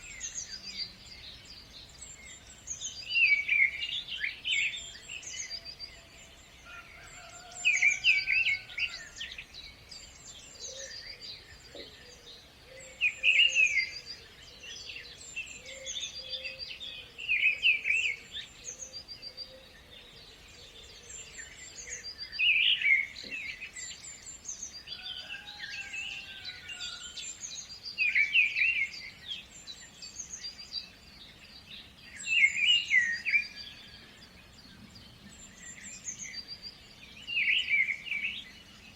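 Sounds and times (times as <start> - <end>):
bird song phrase: 0.0 - 38.9.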